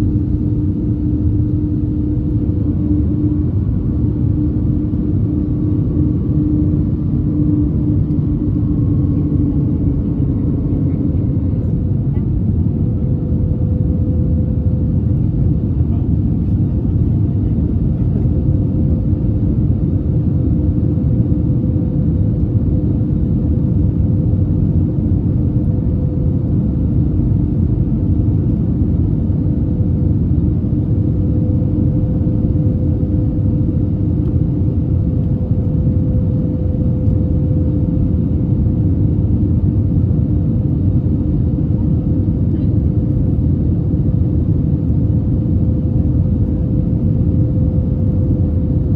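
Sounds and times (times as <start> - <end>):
engine and airflow rumble: 0.0 - 48.9
steady hum tones: 0.0 - 48.9.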